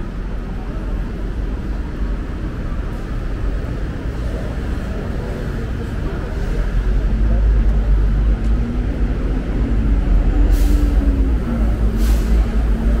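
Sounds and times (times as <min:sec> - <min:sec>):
crowd noise: 0:00.0 - 0:13.0
faint voices: 0:00.0 - 0:13.0.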